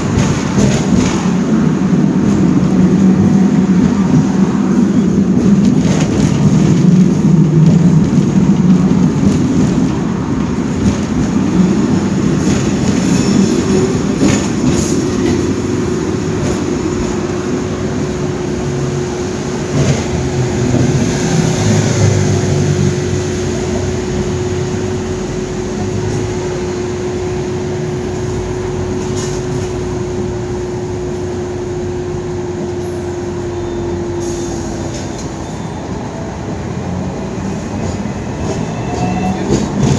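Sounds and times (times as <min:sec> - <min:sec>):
tram rumbling on track: 0:00.0 - 0:39.9.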